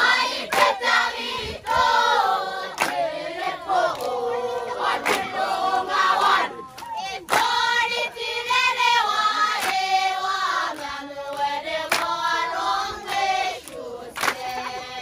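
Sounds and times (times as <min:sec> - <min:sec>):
voices singing in chorus: 0:00.0 - 0:15.0.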